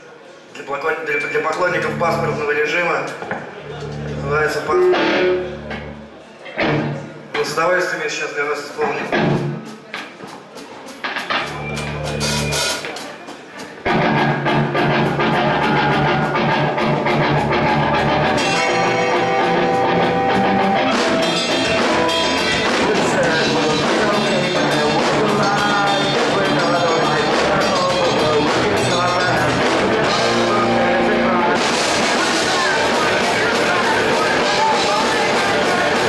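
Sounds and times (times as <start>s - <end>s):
live rock band playing: 1.6s - 7.3s, 9.0s - 36.0s.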